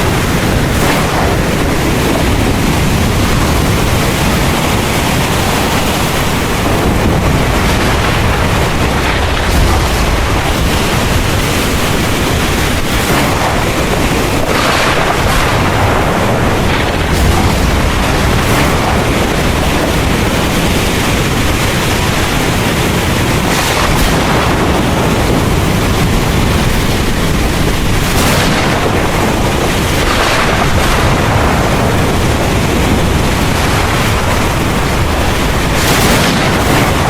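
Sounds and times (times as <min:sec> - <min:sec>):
heavy rain falling: 0:00.0 - 0:37.0
thunder rumbling: 0:00.0 - 0:37.0.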